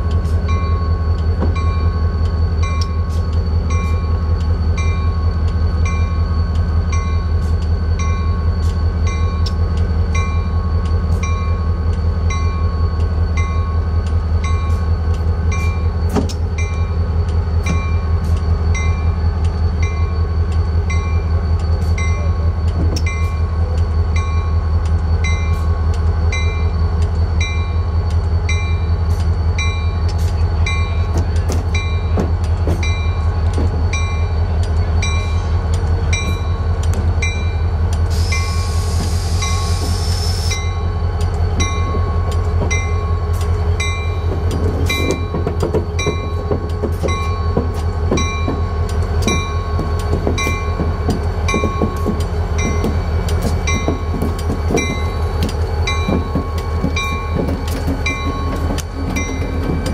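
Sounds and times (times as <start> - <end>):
locomotive bell ringing: 0.0 - 39.9, 40.5 - 59.9
diesel locomotive engine idling: 0.0 - 59.9.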